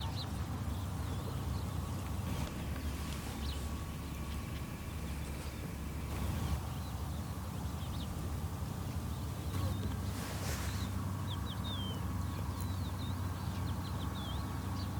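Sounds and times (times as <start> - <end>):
birds chirping: 0.0 - 14.9
steady low rumble: 0.0 - 14.9.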